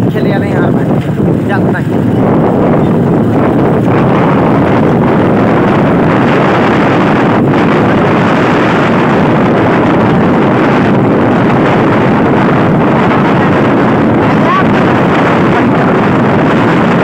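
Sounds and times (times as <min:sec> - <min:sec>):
motorcycle engines running: 0:00.0 - 0:17.0
wind rushing on microphone: 0:00.0 - 0:17.0.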